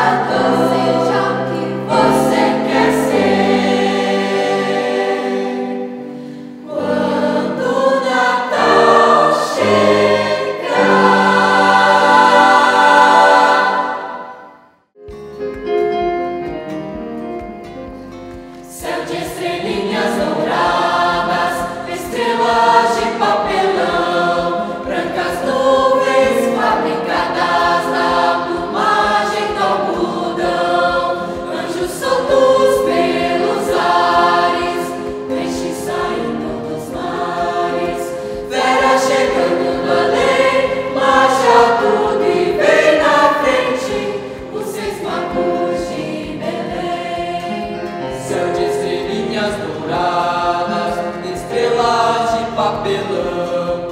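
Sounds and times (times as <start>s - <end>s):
youth choir singing: 0.0s - 14.6s, 18.7s - 53.9s.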